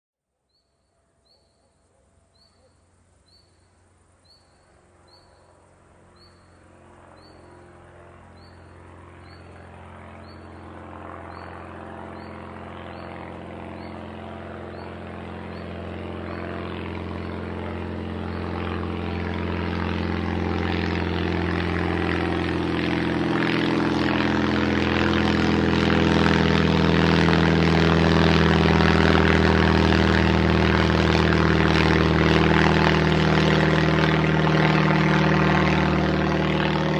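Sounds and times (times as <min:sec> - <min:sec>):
propeller plane engine drone: 0:00.5 - 0:36.9.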